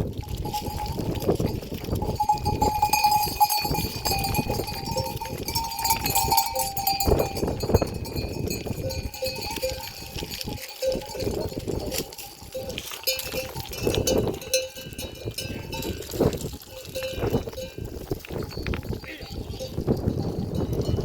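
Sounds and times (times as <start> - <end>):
livestock bells clanking: 0.0 - 21.0.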